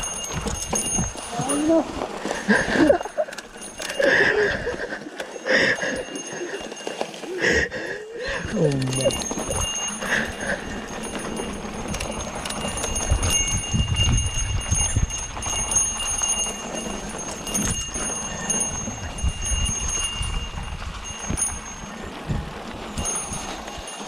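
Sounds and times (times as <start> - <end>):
bike rattling on dirt trail: 0.0 - 24.0.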